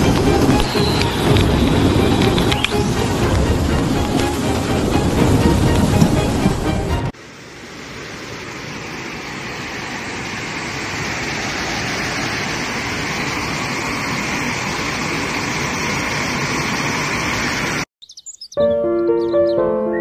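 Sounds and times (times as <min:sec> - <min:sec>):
rushing floodwater: 0:00.0 - 0:17.8
heavy rain: 0:00.0 - 0:17.9.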